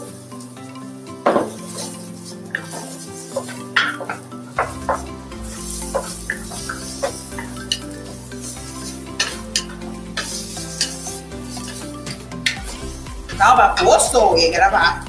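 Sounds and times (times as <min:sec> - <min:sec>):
shrimp sizzling in oil: 0:00.0 - 0:14.1
wooden spatula scraping wok: 0:00.0 - 0:14.3.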